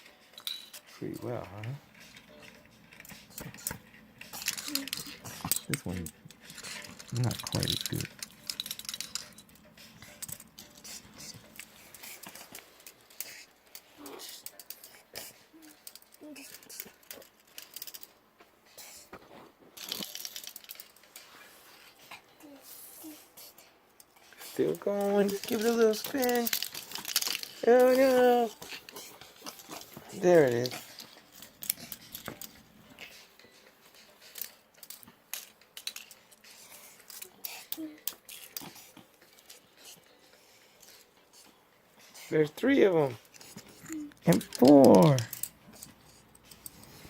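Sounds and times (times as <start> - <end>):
plastic fidget spinners clicking: 0.0 - 19.1, 19.8 - 47.0.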